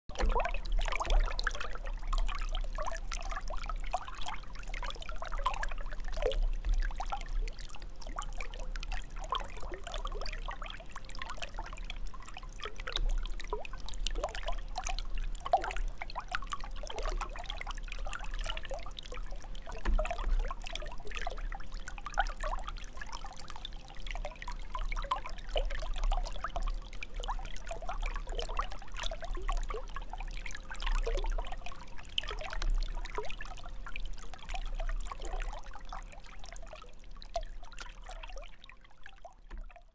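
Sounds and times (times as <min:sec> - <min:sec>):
water trickling and bubbling: 0:00.1 - 0:39.9.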